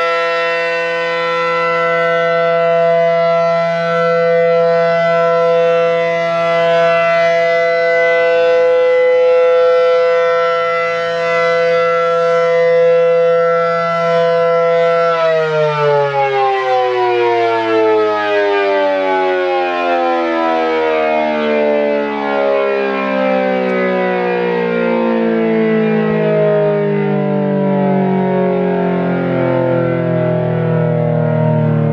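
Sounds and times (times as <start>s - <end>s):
warning siren winding down: 0.0s - 31.9s.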